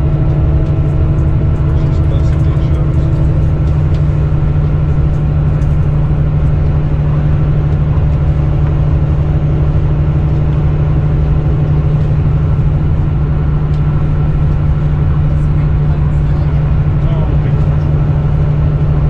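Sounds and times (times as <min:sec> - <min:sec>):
diesel engine droning: 0:00.0 - 0:19.0
road and tyre noise: 0:00.0 - 0:19.0.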